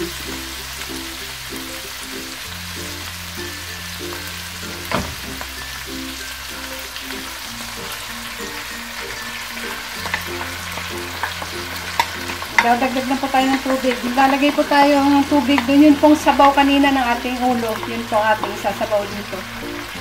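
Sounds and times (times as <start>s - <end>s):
background music with bass line: 0.0s - 20.0s
food sizzling in a frying pan: 0.0s - 20.0s.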